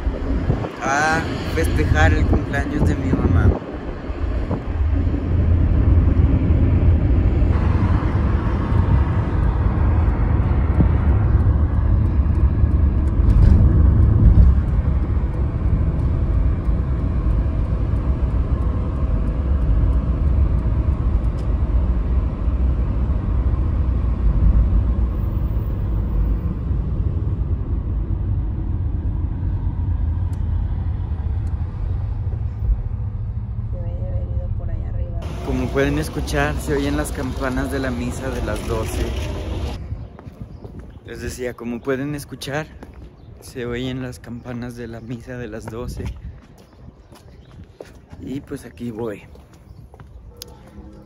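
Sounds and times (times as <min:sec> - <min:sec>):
car engine and tyre noise: 0:00.0 - 0:51.0.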